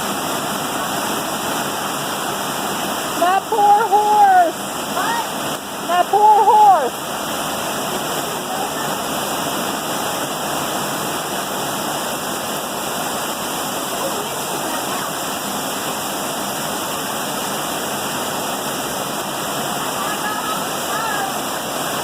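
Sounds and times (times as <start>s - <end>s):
heavy rain downpour: 0.0s - 22.0s.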